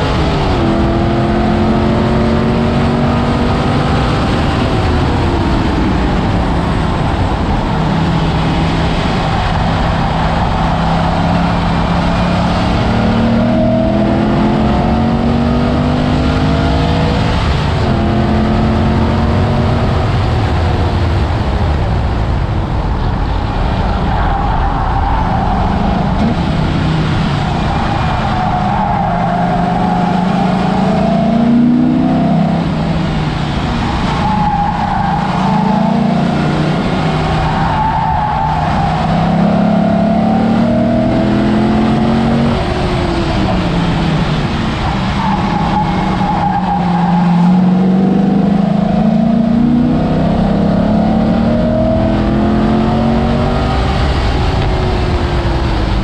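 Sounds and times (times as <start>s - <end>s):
car engine revving at speed: 0.0s - 56.0s
road and wind noise: 0.0s - 56.0s.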